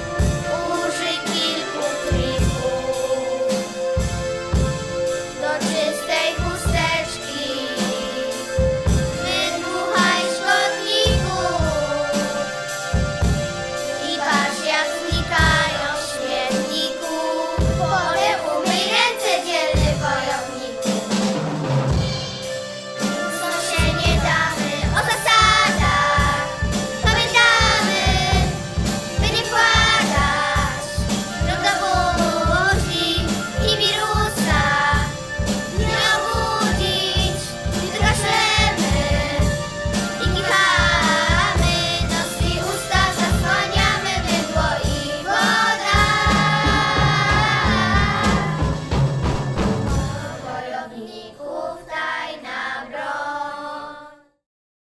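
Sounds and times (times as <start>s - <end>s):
children singing in chorus: 0.0s - 3.8s, 5.4s - 8.5s, 9.2s - 12.7s, 14.0s - 21.0s, 23.0s - 28.6s, 29.2s - 39.6s, 40.2s - 48.9s, 49.9s - 54.2s
backing track with drum beat: 0.0s - 50.8s.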